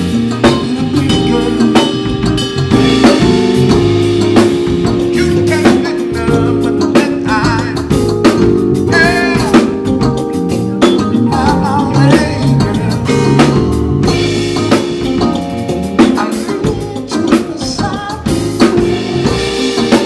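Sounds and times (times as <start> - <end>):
person singing: 0.0 - 2.4, 4.9 - 20.0
drum kit beat: 0.0 - 20.0
electric bass: 0.0 - 20.0
keyboard: 0.0 - 20.0.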